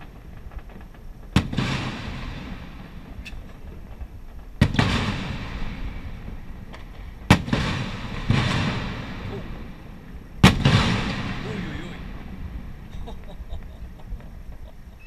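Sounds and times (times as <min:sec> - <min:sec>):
firework shells bursting: 0:00.0 - 0:15.0.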